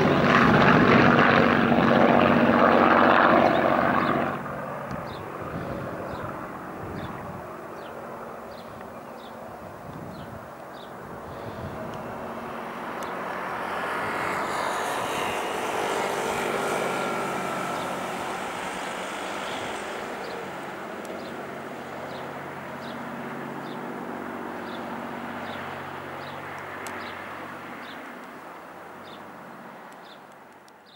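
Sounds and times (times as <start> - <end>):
aircraft engine droning: 0.0 - 30.6.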